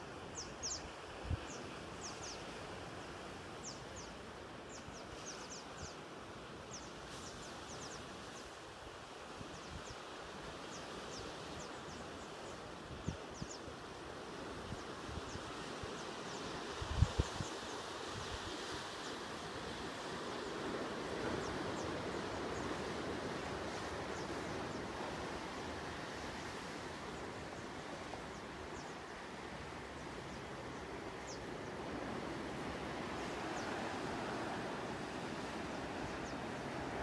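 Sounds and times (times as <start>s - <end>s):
wind: 0.0s - 37.0s.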